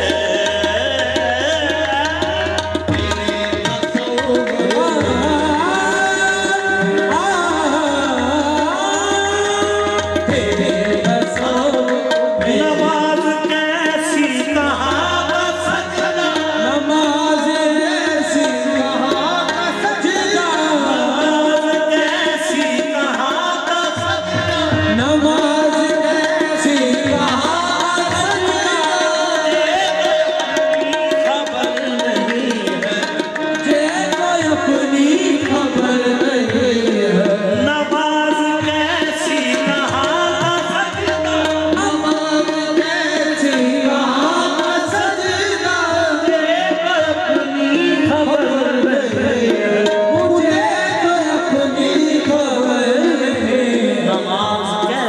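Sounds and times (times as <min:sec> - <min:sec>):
tabla drumming: 0:00.0 - 0:55.0.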